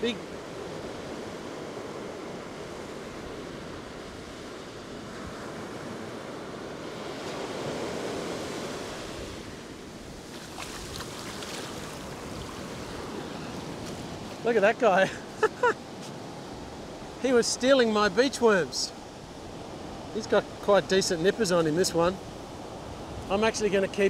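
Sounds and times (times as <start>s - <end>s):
ocean surf breaking on beach: 0.0s - 24.0s.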